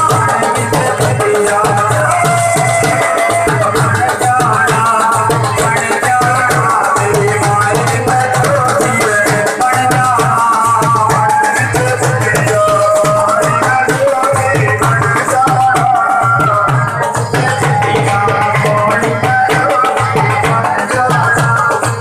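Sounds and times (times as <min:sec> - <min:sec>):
folk dance music with tabla: 0:00.0 - 0:22.0.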